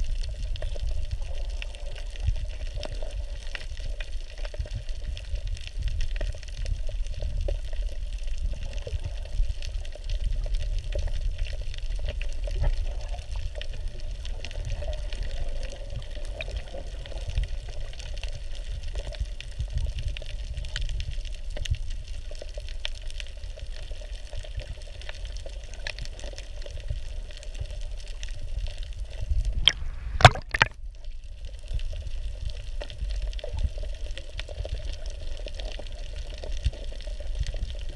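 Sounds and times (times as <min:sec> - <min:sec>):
fine crackle of tiny ticks: 0:00.0 - 0:29.8, 0:30.8 - 0:37.9
underwater rumble of moving water: 0:00.0 - 0:37.9.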